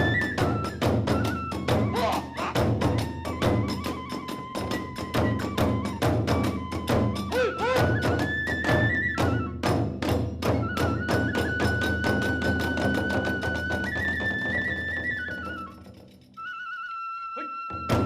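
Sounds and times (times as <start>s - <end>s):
drum beats: 0.0s - 16.2s, 17.7s - 18.0s
bamboo flute melody: 0.0s - 18.0s.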